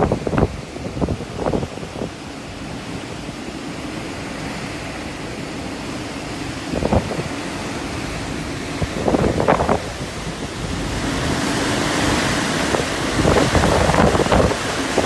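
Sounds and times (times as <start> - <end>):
strong wind blowing: 0.0 - 15.0
wind buffeting microphone: 0.0 - 15.0.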